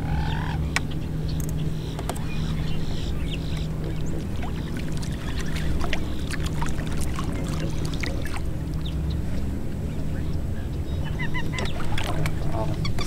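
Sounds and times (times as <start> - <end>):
bird calls: 0.0 - 13.0
boat motor humming: 0.0 - 13.0
water lapping: 0.0 - 13.0.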